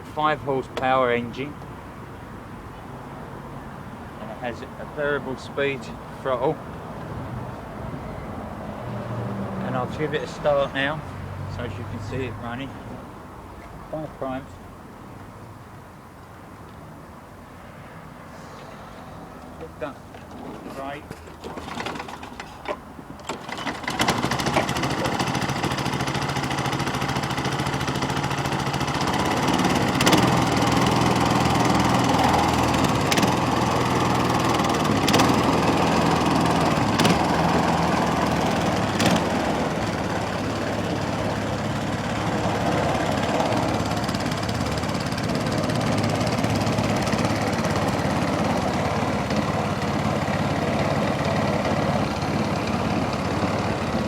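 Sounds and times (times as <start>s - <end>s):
lawnmower engine starting and running: 0.0s - 2.0s, 4.0s - 14.4s, 19.3s - 54.0s.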